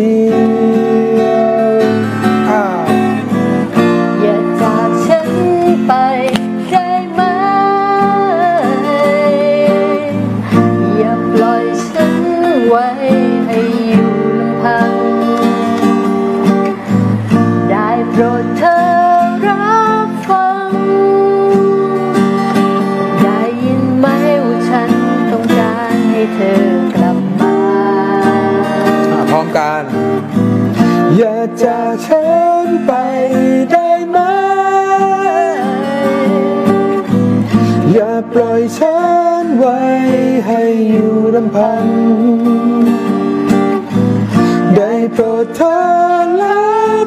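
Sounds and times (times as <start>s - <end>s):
person singing: 0.0s - 30.1s, 30.7s - 47.0s
acoustic guitar strumming: 0.0s - 47.0s.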